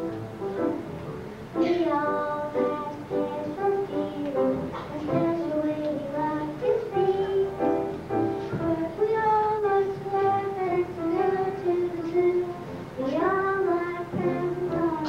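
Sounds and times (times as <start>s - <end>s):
musical accompaniment: 0.0s - 15.0s
child singing into a microphone: 1.6s - 7.8s, 8.4s - 15.0s.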